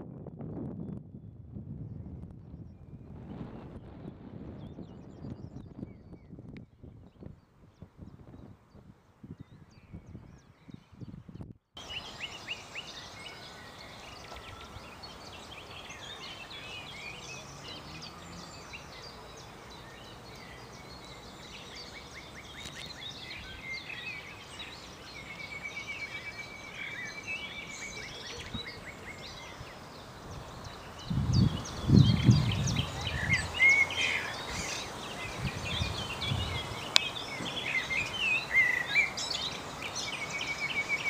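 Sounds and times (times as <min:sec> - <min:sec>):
songbirds chirping and trilling: 0:00.8 - 0:41.0.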